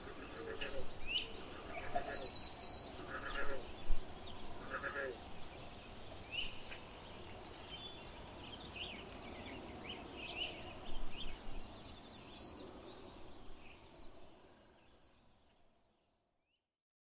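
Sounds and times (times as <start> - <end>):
outdoor background noise: 0.0 - 16.6.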